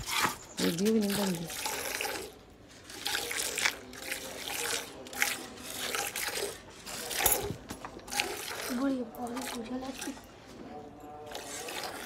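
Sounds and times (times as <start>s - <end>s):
milk squirting into steel pail: 0.0s - 10.3s, 11.2s - 12.0s.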